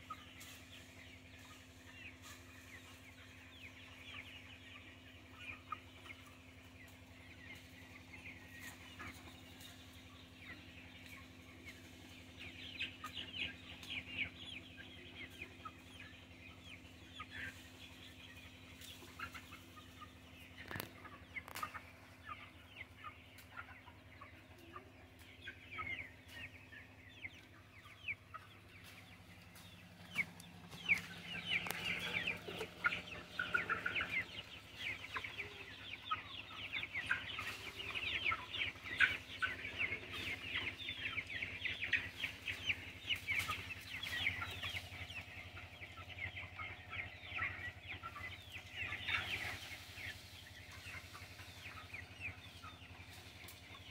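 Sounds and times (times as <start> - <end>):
chicks peeping and clucking: 0.0 - 53.9.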